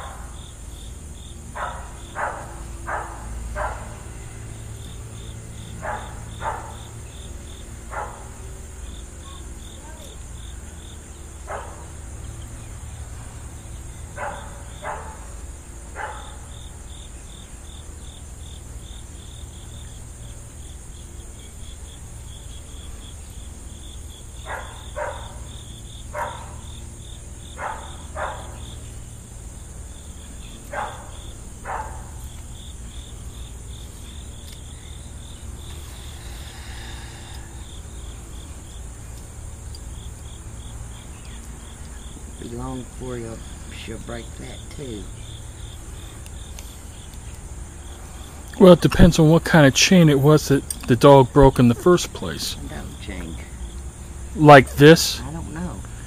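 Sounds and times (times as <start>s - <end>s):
crickets chirping: 0.0s - 56.0s
high insect drone: 0.0s - 56.0s.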